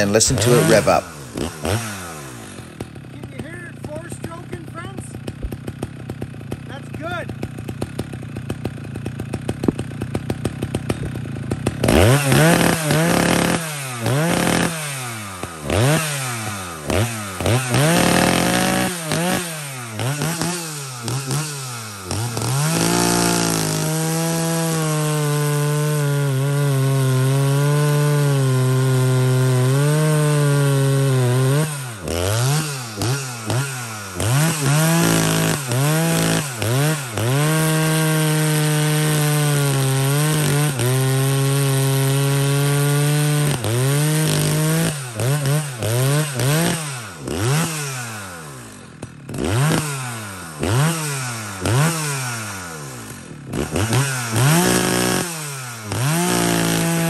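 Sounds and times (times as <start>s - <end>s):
chainsaw cutting through log: 0.0s - 57.0s
chainsaw idling: 0.0s - 57.0s
chainsaw revving: 0.0s - 57.0s.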